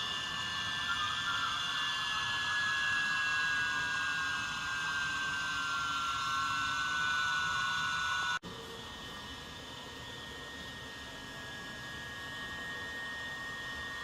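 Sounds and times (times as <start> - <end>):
model locomotive turbine whine: 0.0 - 14.0.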